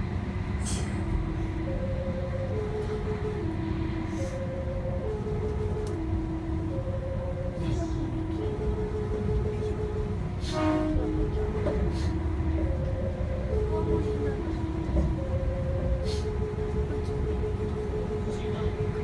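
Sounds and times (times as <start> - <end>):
low rumble of train running: 0.0 - 19.0
train musical horn melody: 1.2 - 19.0.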